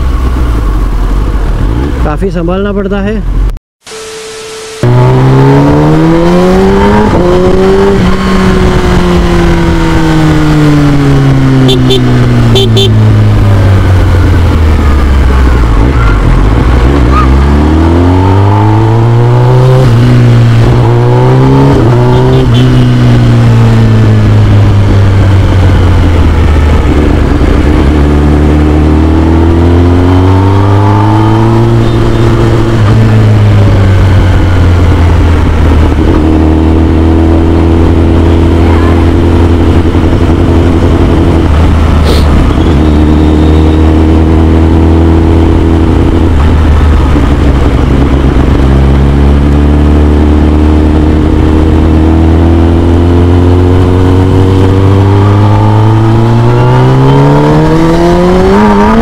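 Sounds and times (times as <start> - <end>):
motorcycle engine revving: 4.4 - 59.0.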